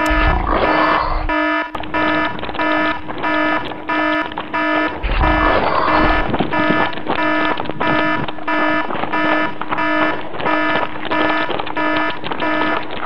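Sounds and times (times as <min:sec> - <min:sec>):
repeating electronic beep: 0:00.0 - 0:13.0.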